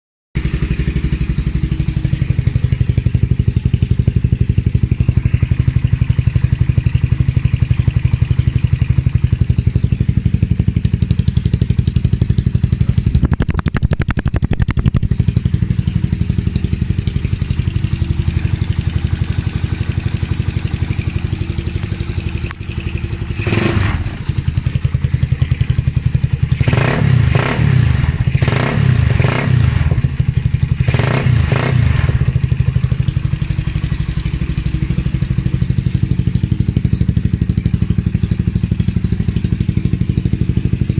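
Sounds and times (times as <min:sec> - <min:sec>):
motorcycle engine idling and revving: 0:00.4 - 0:40.9.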